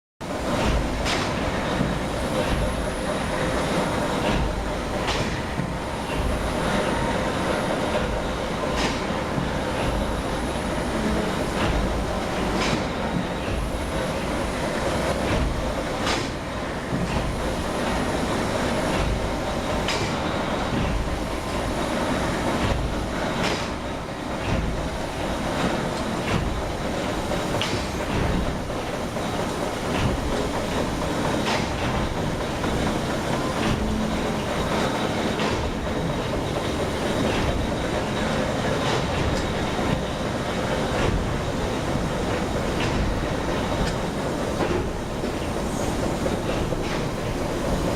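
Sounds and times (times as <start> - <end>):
steam engine machinery din: 0.2 - 47.9.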